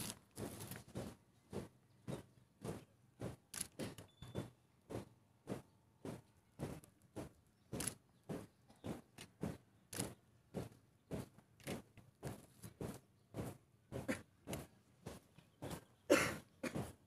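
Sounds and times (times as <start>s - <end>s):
marching footsteps on gravel: 0.0s - 17.0s.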